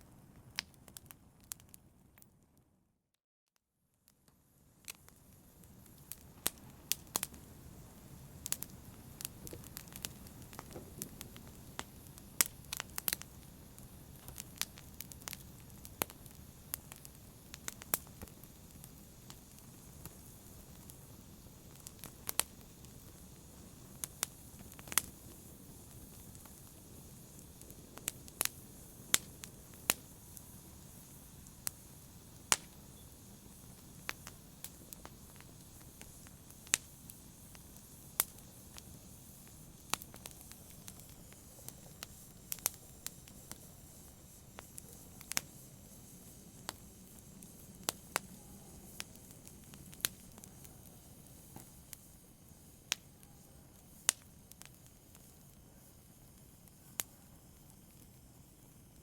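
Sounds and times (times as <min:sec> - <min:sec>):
wood fire crackling: 0:00.0 - 0:02.5, 0:04.1 - 0:59.0.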